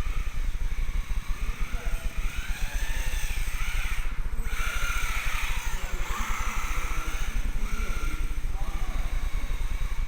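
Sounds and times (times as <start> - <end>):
rc car electric motor whining: 0.0 - 10.0.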